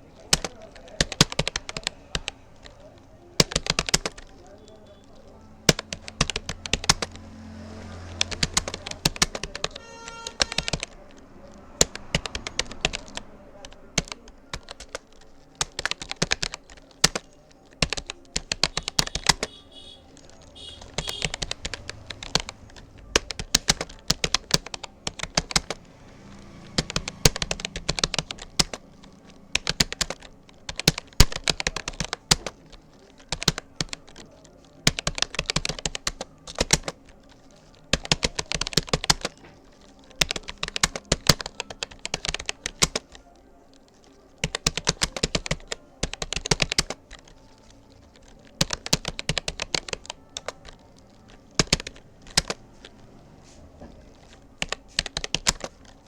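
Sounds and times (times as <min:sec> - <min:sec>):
typing on a computer keyboard: 0:00.0 - 0:56.0.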